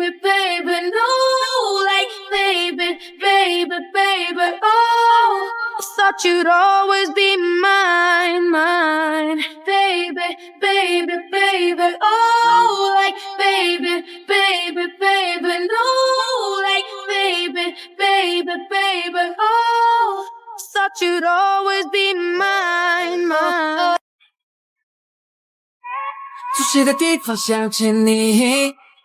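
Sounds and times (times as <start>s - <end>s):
woman singing: 0.0s - 24.0s, 25.8s - 28.8s.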